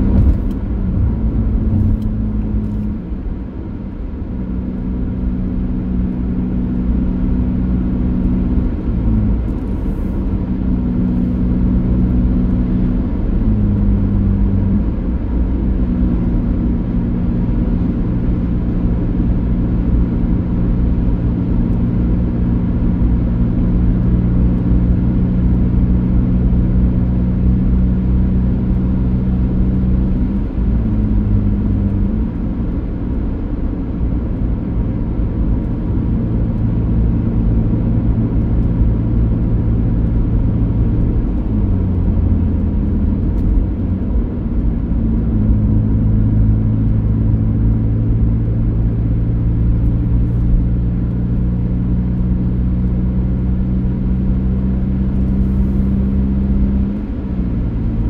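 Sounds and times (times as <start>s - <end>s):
car engine running: 0.0s - 58.0s
low road rumble: 0.0s - 58.0s.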